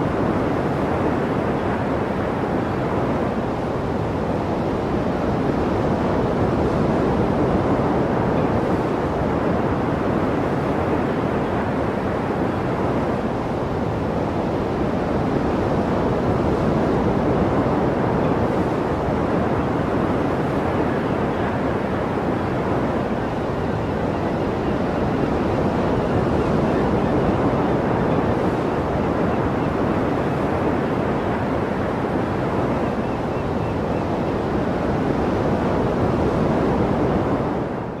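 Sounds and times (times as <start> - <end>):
wind blowing across microphone: 0.0 - 38.0.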